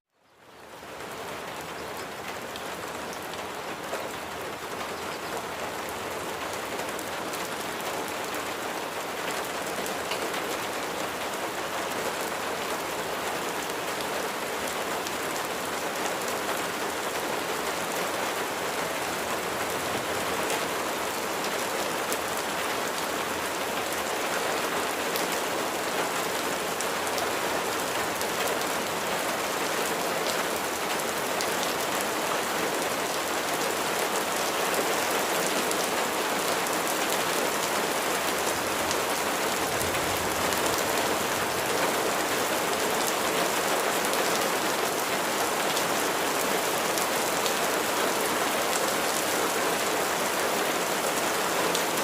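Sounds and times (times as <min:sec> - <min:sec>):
raindrops pattering: 0:00.2 - 0:47.6
steady rain hiss: 0:00.2 - 0:52.0.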